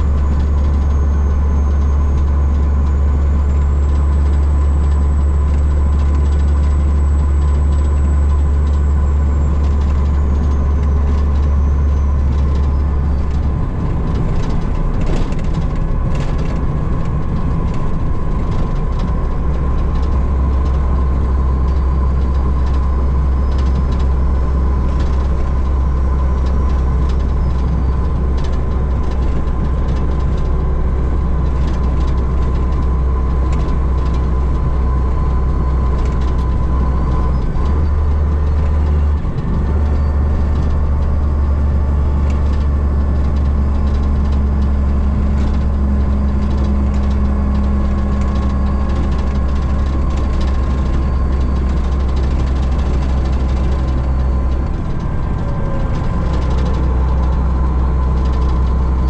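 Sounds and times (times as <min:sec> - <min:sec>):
diesel truck engine droning: 0:00.0 - 0:59.0.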